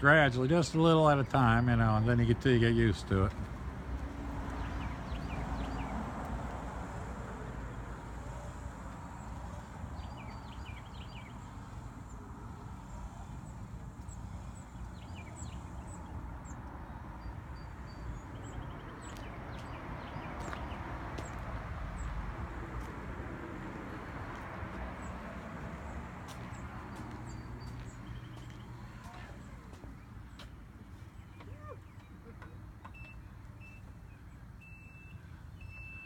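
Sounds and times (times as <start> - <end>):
low outdoor rumble: 0.0 - 32.6
small birds chirping: 4.5 - 7.0, 7.6 - 22.9, 23.6 - 36.0.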